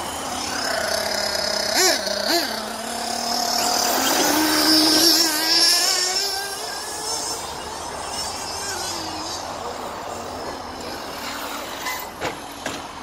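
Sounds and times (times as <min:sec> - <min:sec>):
electric motor and gear whine: 0:00.0 - 0:13.0.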